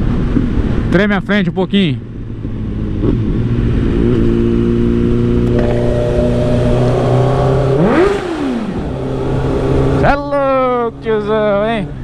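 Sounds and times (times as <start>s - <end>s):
motorcycle engine revving: 2.1s - 11.9s.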